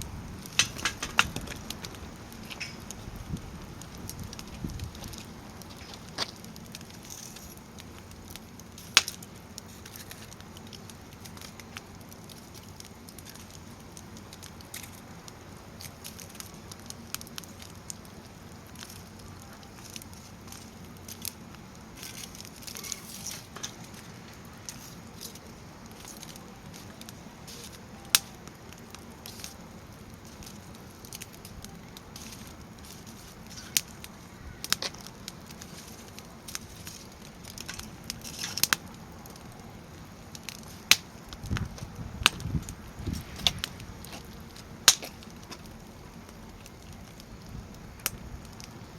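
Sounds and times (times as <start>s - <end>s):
fire crackling: 0.0s - 48.9s
flames rushing: 0.0s - 48.9s
wood popping in fire: 0.0s - 48.9s.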